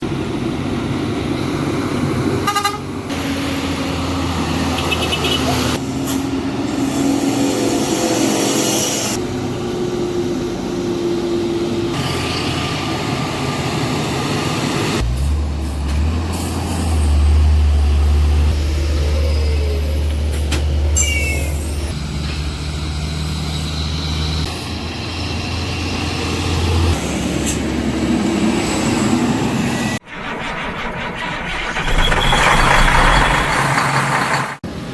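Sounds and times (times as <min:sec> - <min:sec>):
diesel trucks labouring uphill: 0:00.0 - 0:08.5, 0:09.2 - 0:30.0.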